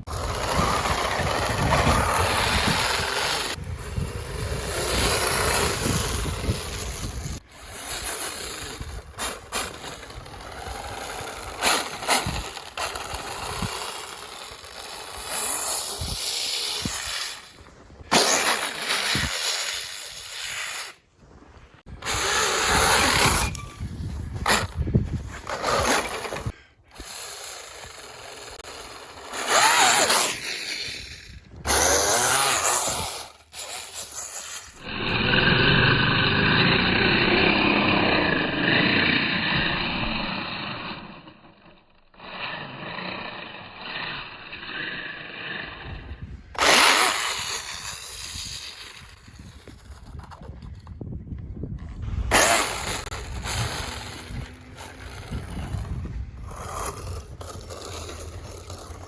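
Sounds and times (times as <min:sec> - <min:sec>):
electric motor whining: 0:00.1 - 0:21.0, 0:22.0 - 0:41.5, 0:42.1 - 0:50.0, 0:52.1 - 0:59.0.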